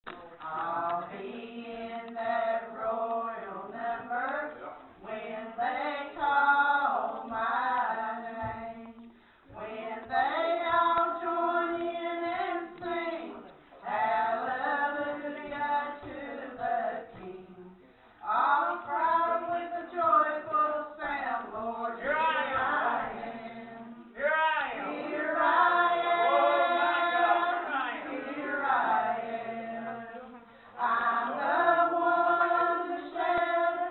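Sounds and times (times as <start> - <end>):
women singing a hymn: 0.3 - 33.9.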